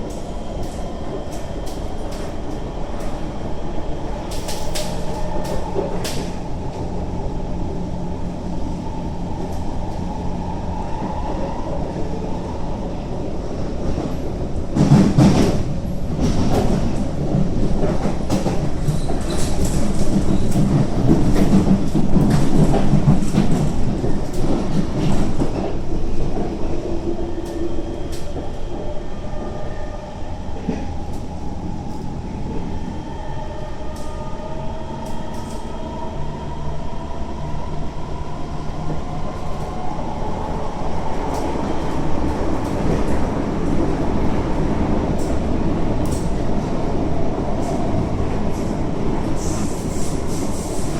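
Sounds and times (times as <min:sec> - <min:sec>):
train rumble inside carriage: 0:00.0 - 0:50.9.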